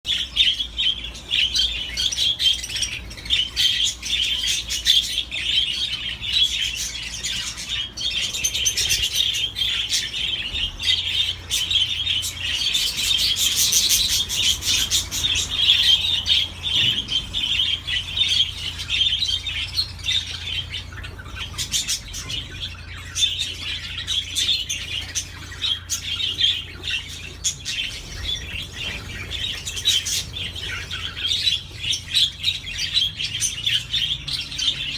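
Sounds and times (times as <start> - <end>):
parrots chattering: 0.1 - 34.9.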